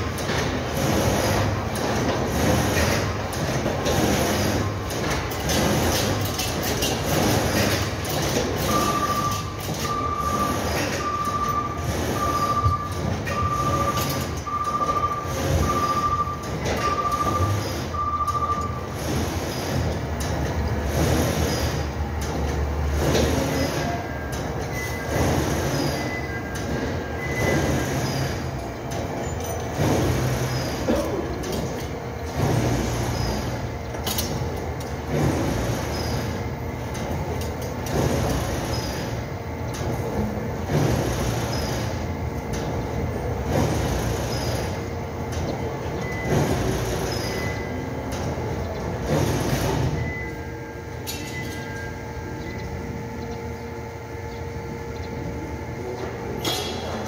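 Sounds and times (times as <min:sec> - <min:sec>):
factory machinery clatter: 0:00.0 - 0:57.0
low steady machine hum: 0:00.0 - 0:57.0.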